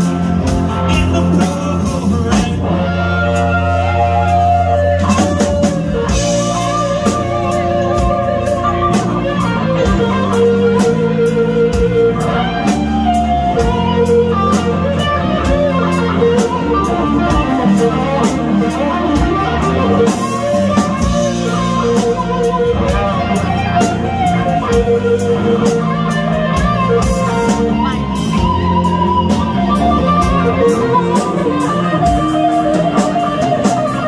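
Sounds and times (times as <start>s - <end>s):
bass guitar: 0.0s - 34.0s
drum kit beat: 0.0s - 34.0s
electric guitars: 0.0s - 34.0s.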